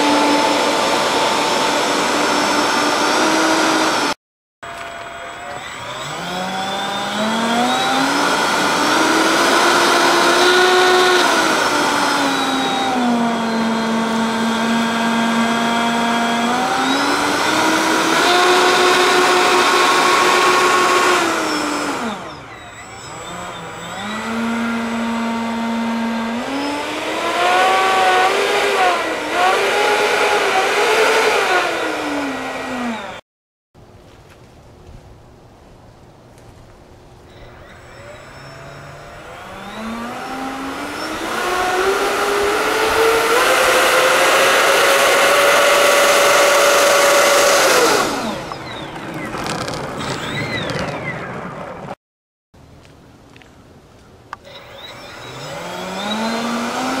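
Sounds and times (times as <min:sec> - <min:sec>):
electric ducted fans whining: 0:00.0 - 0:33.2, 0:33.8 - 0:52.0, 0:53.6 - 0:57.0.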